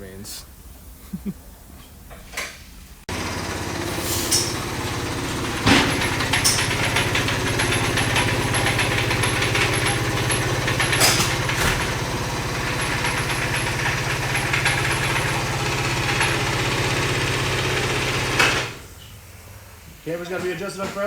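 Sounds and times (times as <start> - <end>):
motor humming: 3.1 - 20.2.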